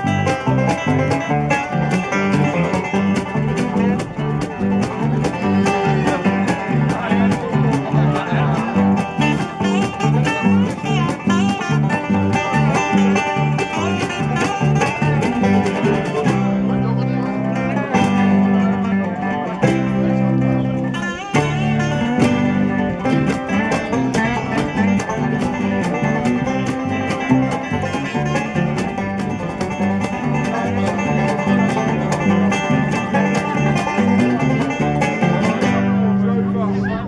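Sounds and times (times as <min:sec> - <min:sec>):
cajon beat: 0:00.0 - 0:36.6
bluegrass band playing: 0:00.0 - 0:37.0.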